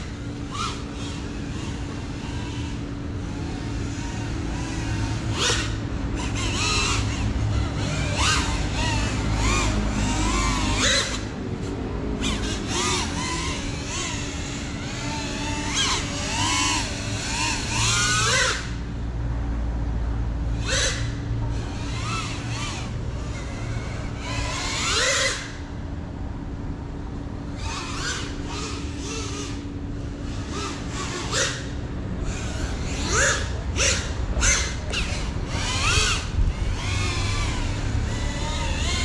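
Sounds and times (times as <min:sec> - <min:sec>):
drone motors whining: 0:00.0 - 0:39.0.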